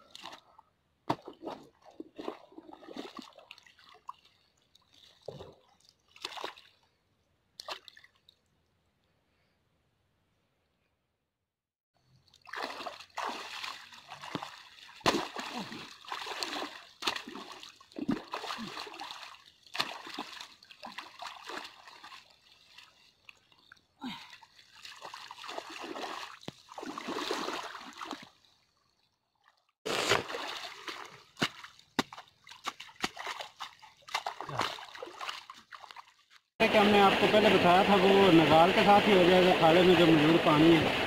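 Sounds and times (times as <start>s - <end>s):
water splashing and sloshing: 0.0s - 8.6s, 12.0s - 41.0s.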